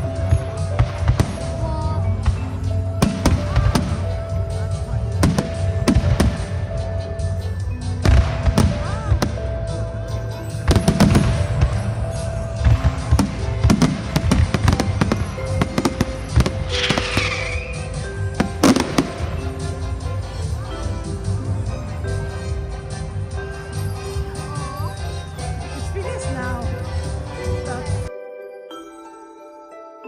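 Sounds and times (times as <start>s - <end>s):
fireworks bangs and crackles: 0.0s - 28.0s
music playing: 0.0s - 30.0s.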